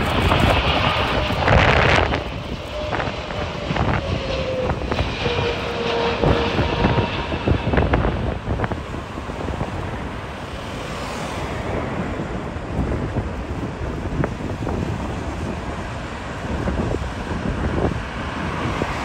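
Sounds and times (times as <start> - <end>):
jet airliner engines rumbling: 0.0 - 19.0
wind buffeting microphone: 0.0 - 19.0.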